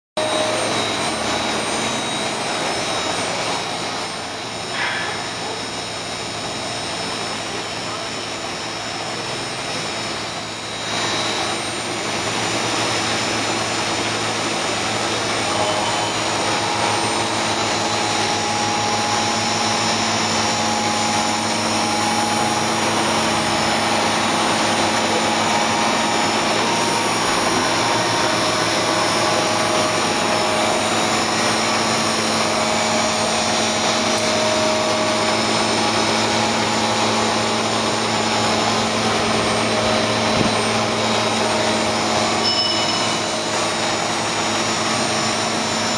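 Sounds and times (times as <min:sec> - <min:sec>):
gearbox mechanical whine: 0:00.2 - 0:45.9.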